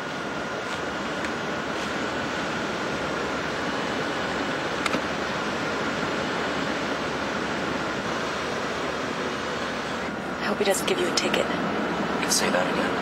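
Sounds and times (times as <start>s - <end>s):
roadside noise rushing: 0.0s - 13.0s.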